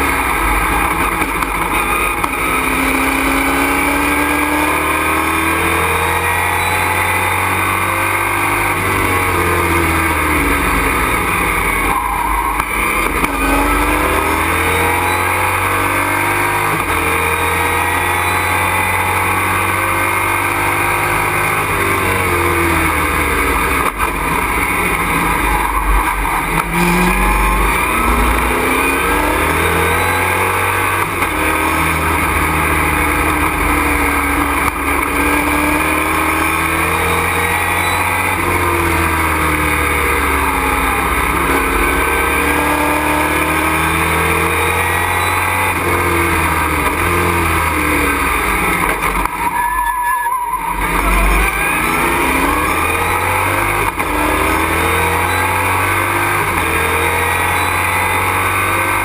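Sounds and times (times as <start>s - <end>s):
race truck engine revving: 0.0s - 59.0s.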